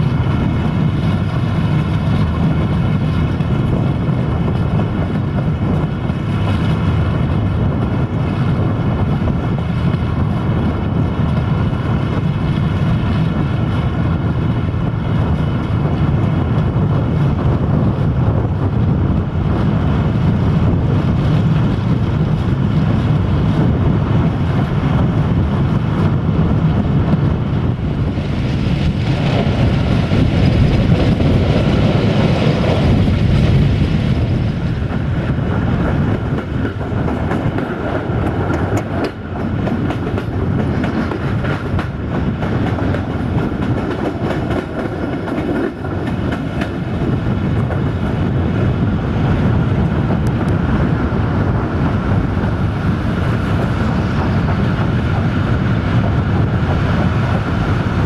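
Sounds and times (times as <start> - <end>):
diesel railcar engine drone: 0.0 - 58.0
train wheel rumble: 0.0 - 58.0
wind rushing past window: 0.0 - 58.0.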